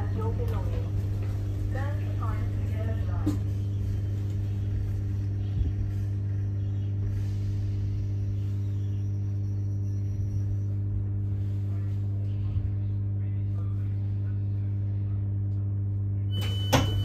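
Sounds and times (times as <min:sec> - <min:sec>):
electric train electrical hum: 0:00.0 - 0:17.0.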